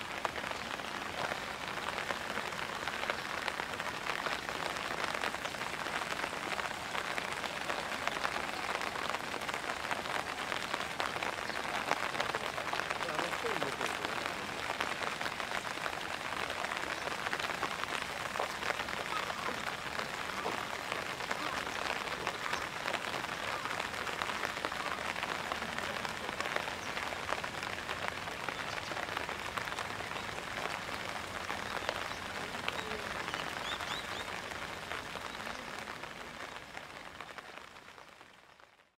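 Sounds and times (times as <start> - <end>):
heavy rain hissing: 0.0 - 38.0
raindrops ticking: 0.0 - 38.9.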